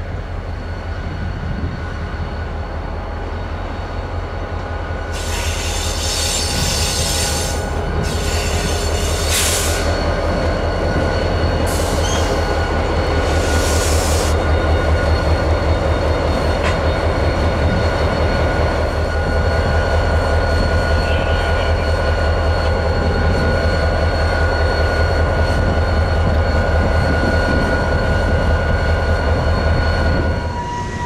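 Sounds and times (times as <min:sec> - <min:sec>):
freight train low rumble: 0:00.0 - 0:31.0.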